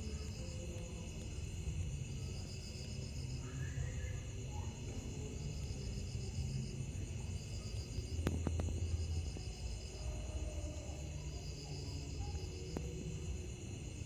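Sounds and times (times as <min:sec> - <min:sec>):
crickets trilling: 0:00.0 - 0:14.0
high pulsing insect trill: 0:00.0 - 0:14.0.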